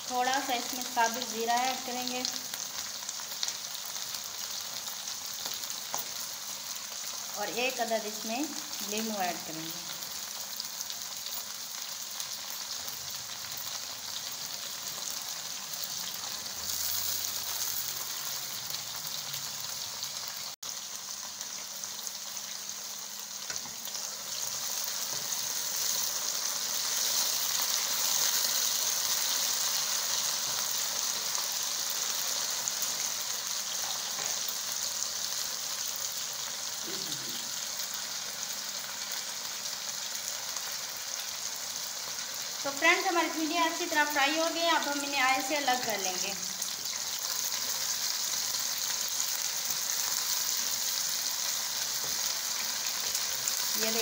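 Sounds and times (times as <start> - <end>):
okra frying in hot oil: 0.0 - 54.0.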